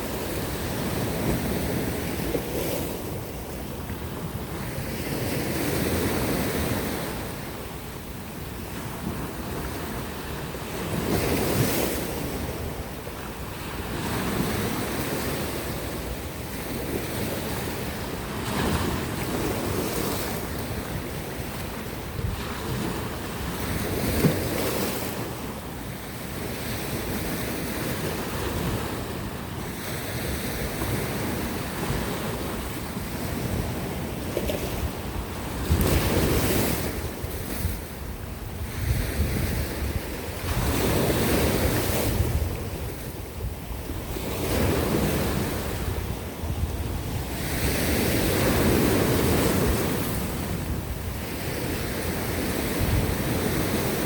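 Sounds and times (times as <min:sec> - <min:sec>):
wind on microphone: 0:00.0 - 0:54.0.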